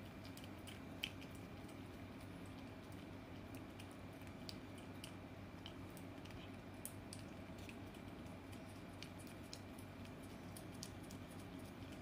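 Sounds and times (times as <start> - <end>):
cat tongue licking clicks: 0.1 - 12.0.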